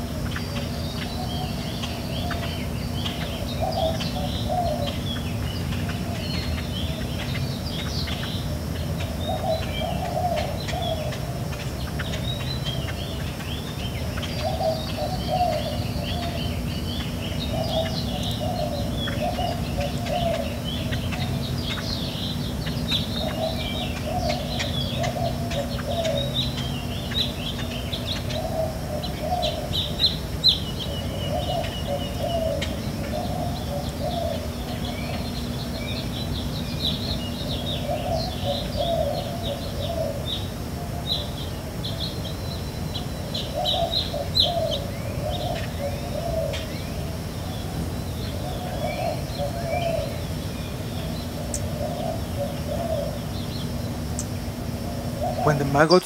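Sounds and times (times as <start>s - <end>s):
birds chirping: 0.0s - 56.0s
faint steady hum: 0.0s - 56.0s
lower repeated bird call: 0.0s - 56.0s.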